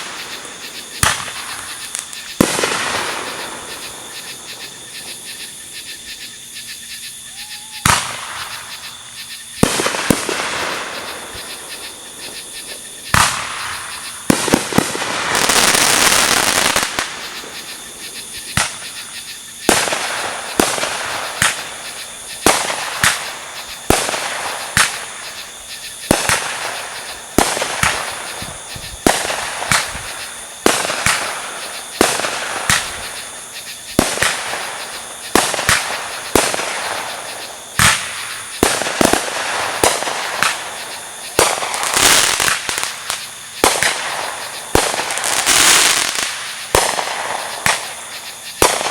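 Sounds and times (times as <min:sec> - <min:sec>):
fireworks banging: 0:00.0 - 0:05.2, 0:07.7 - 0:08.8, 0:09.6 - 0:48.9
fireworks hissing crackle: 0:00.0 - 0:06.3, 0:07.4 - 0:48.9.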